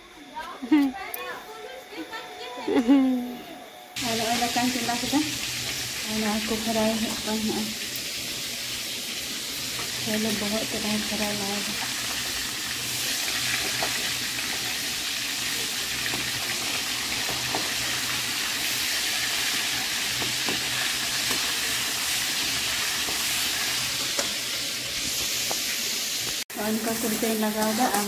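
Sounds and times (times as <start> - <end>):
fish sizzling in oil: 4.0 - 28.0.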